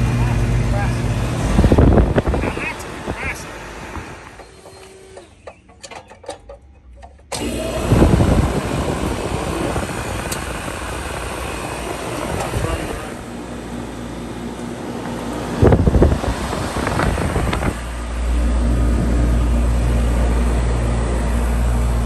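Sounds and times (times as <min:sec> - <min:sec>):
air conditioner compressor and fan running: 0:00.0 - 0:22.0.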